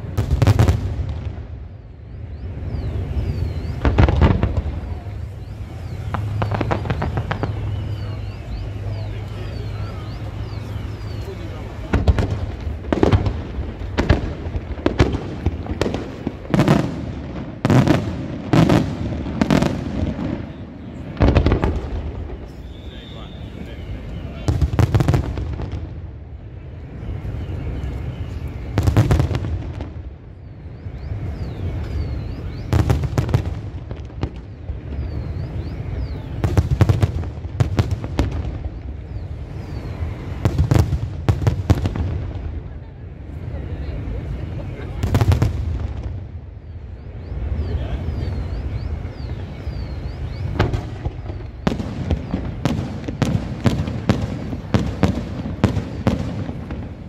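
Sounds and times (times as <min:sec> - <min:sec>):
low rumble of detonations: 0:00.0 - 0:57.0.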